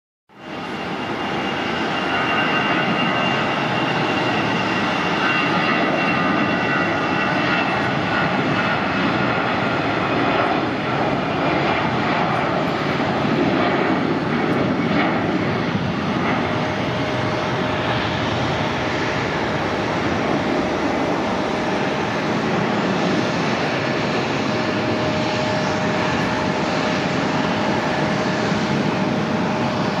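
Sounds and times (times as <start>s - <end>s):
jet engine roar at takeoff: 0.3s - 30.0s.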